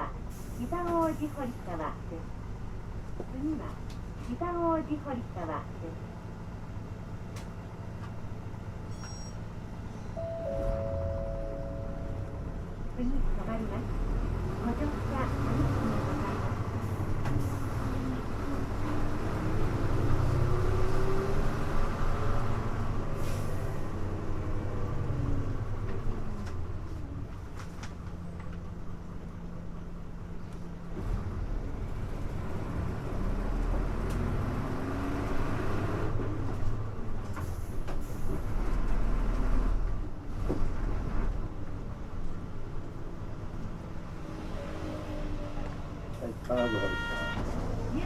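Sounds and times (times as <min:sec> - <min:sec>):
bus engine rumbling: 0:00.0 - 0:48.0.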